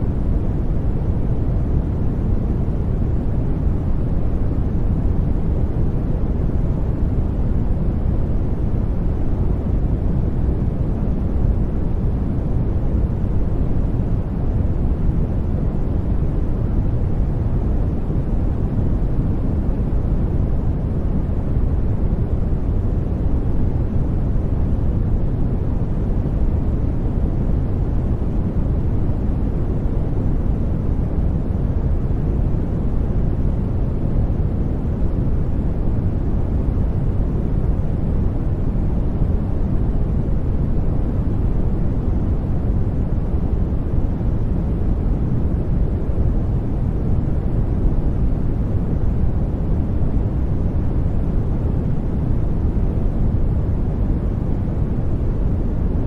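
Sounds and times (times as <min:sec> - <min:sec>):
steady low generated noise: 0:00.0 - 0:56.0.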